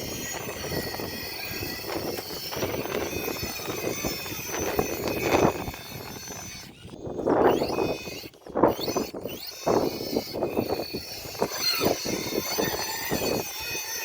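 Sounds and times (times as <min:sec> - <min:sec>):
electric motor whining: 0:00.0 - 0:14.0
tires grinding over rock: 0:00.0 - 0:14.0.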